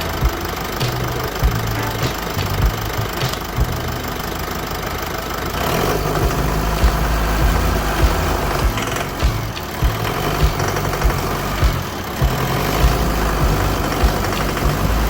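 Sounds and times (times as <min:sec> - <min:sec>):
low engine knocks: 0:00.0 - 0:04.0, 0:06.2 - 0:15.0
diesel engine idling: 0:00.0 - 0:15.0.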